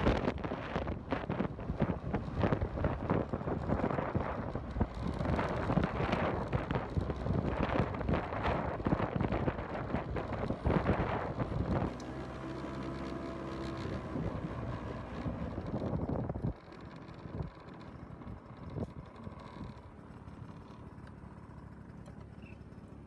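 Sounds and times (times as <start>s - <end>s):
wind buffeting microphone: 0.0s - 19.9s
motorbike engine drone: 0.0s - 23.0s.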